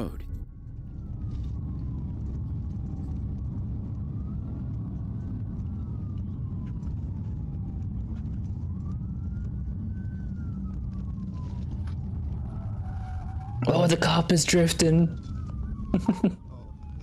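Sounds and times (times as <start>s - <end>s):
engine and road rumble: 0.0s - 17.0s
police siren wail: 0.0s - 17.0s.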